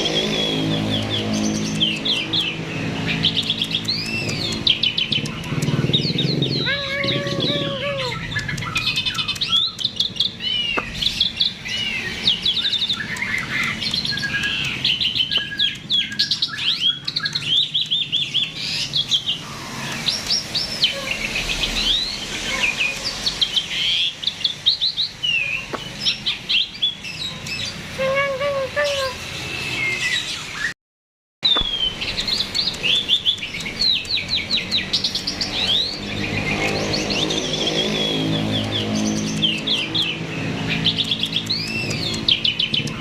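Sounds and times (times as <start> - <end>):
starling singing: 0.0 - 30.7, 31.4 - 43.0.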